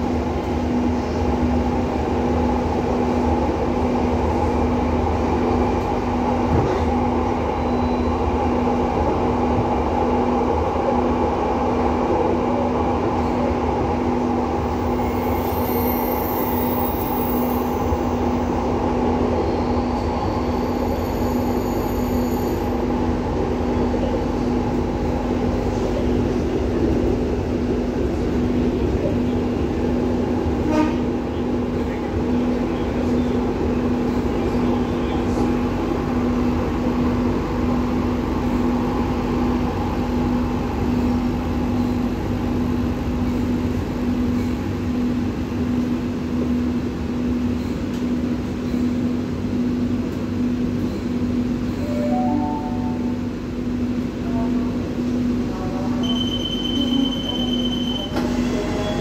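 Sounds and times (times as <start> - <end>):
train car rumbling on track: 0.0 - 59.0.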